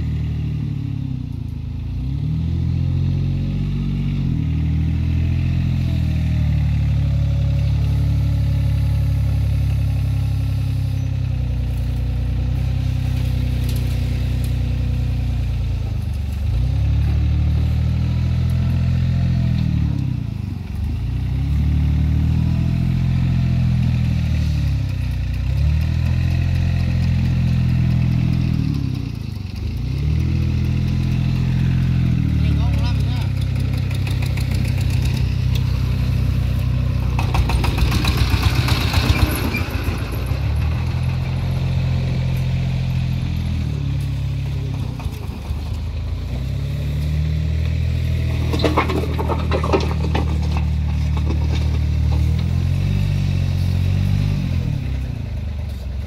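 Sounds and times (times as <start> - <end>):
wheel loader diesel engine: 0.0 - 56.0.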